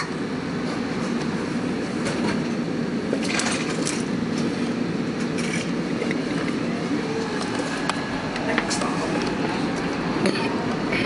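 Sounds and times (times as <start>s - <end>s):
subway wheels and motors rumbling: 0.0s - 11.0s.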